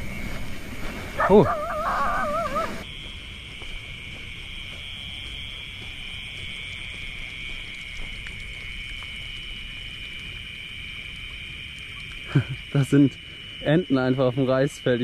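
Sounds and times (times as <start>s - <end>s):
insects and frogs trilling: 0.0s - 15.0s.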